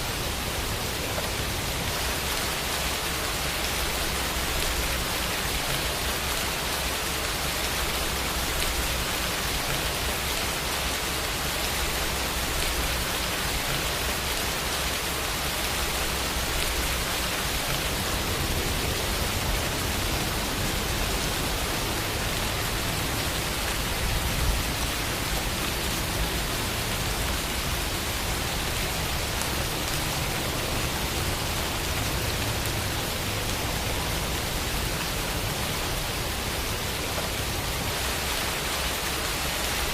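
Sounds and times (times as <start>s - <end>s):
louder rain patter: 0.0s - 39.9s
steady rain: 0.0s - 39.9s.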